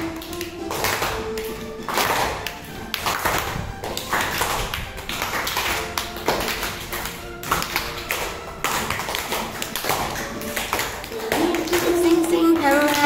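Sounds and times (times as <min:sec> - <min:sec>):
children clapping in rhythm: 0:00.0 - 0:13.0
instrumental song: 0:00.0 - 0:13.0.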